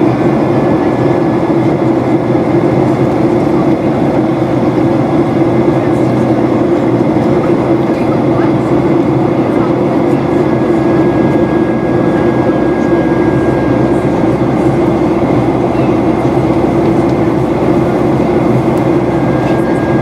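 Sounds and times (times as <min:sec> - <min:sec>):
airplane cabin engine roar: 0:00.0 - 0:20.0.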